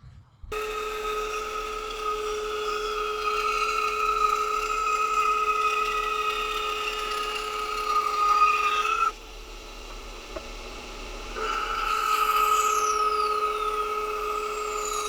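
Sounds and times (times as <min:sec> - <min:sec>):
small power tool whining: 0:00.5 - 0:15.0.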